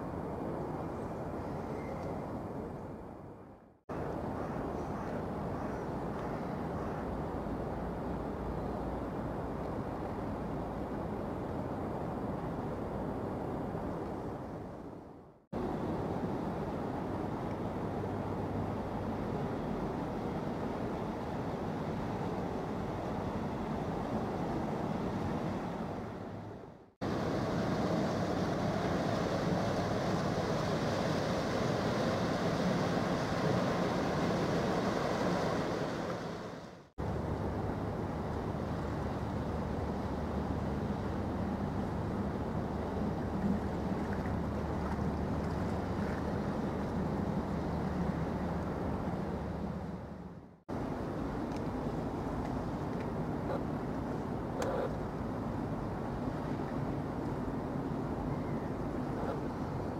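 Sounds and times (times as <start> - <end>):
ship engine low rumble: 0.0 - 59.9.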